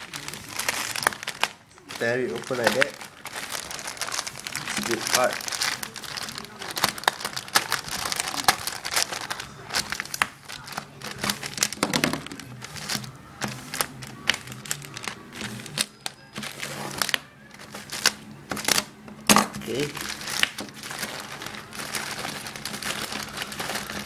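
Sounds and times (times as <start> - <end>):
packaging torn and crinkling: 0.0 - 24.0.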